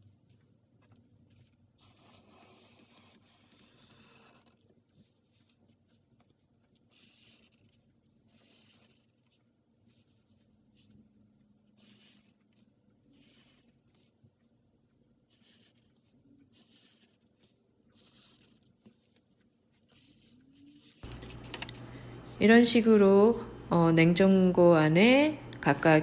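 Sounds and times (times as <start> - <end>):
pen scratching on paper: 1.4 - 11.0, 11.7 - 14.6, 15.3 - 23.6.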